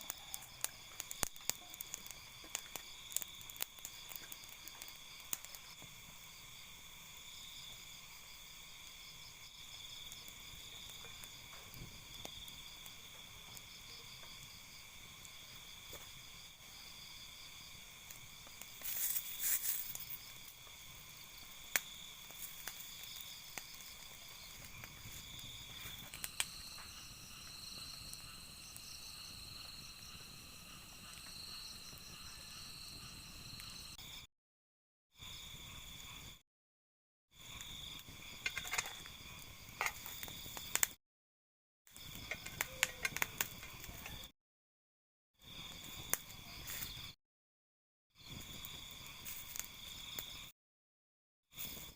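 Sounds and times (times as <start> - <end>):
night insects trilling: 0.0 - 34.3, 35.2 - 36.4, 37.3 - 41.0, 41.9 - 44.3, 45.4 - 47.2, 48.2 - 50.5, 51.5 - 51.9.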